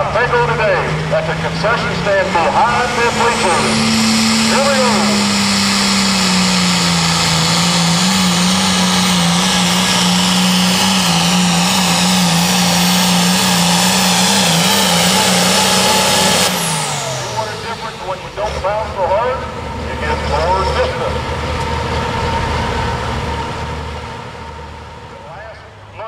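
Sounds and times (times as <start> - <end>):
tractor engine running flat out: 0.0 - 26.0.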